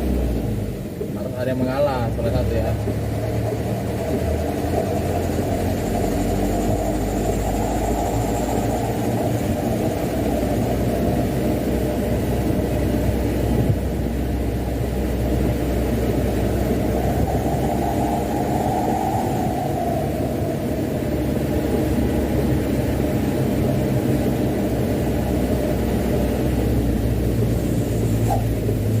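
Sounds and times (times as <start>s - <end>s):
road noise: 0.0s - 29.0s
truck diesel engine drone: 0.0s - 29.0s.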